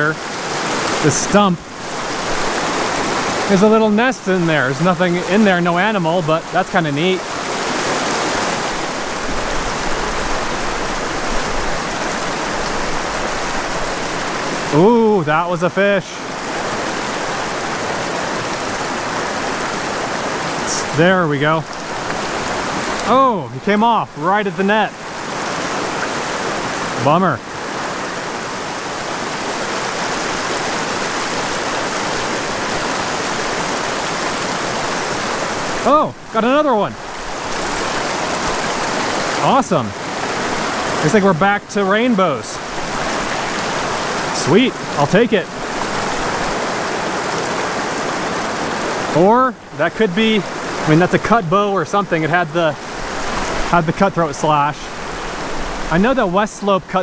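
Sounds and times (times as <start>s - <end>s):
creek rushing over stones: 0.0s - 57.0s.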